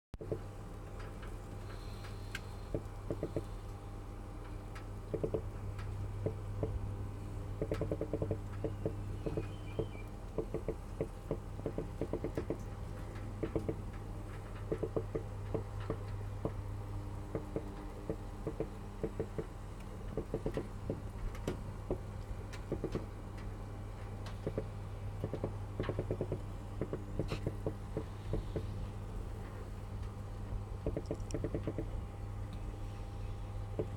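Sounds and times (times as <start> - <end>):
roasting pig crackling and popping: 0.2 - 32.8
steady low hum: 0.2 - 33.9.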